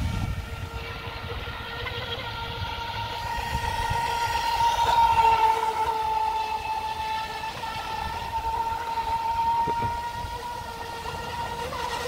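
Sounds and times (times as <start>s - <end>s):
toy boat motor whining: 0.0s - 12.0s.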